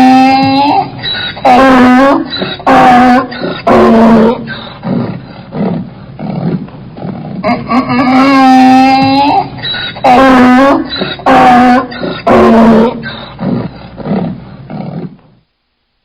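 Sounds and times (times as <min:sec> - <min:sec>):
animal calling loudly: 0:00.0 - 0:15.1.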